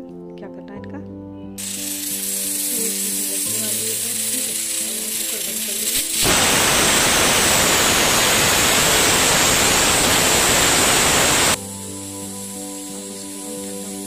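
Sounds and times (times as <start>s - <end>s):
pressure cooker whistle hissing: 1.6s - 14.0s.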